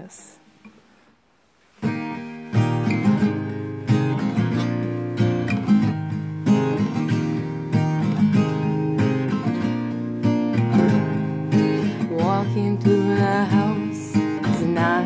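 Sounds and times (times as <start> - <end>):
acoustic guitar strumming: 1.7 - 15.0.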